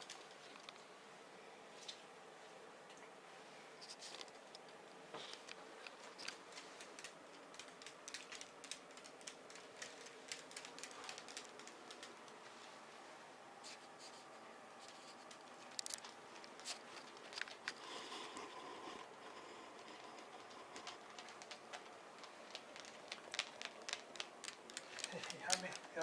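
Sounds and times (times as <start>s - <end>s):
faint clicking and tapping: 0.0s - 0.9s, 3.8s - 13.0s, 13.7s - 26.0s.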